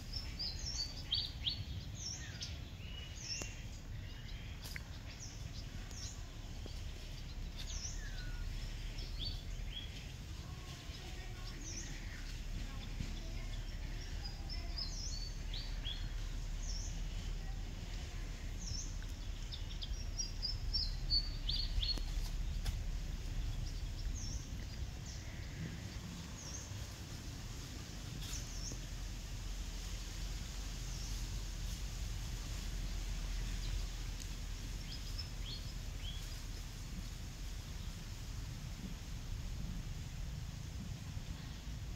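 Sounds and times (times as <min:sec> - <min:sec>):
low rumble: 0:00.0 - 0:41.9.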